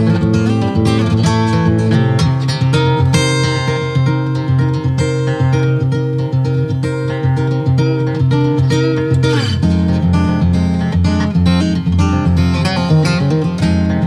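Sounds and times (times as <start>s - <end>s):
guitar plucked and strummed: 0.0s - 14.0s.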